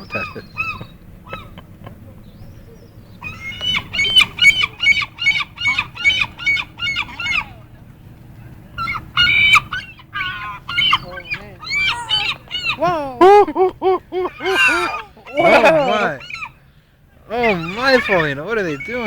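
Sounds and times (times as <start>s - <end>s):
seagull calling: 0.0s - 19.0s.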